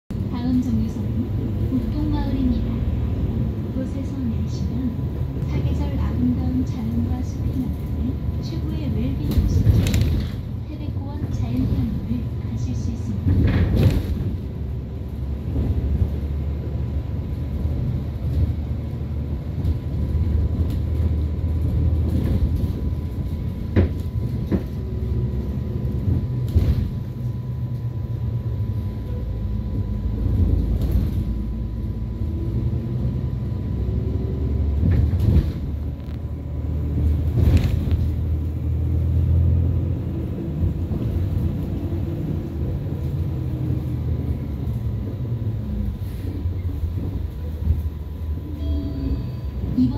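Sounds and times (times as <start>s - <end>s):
bus engine and road rumble: 0.1s - 49.9s.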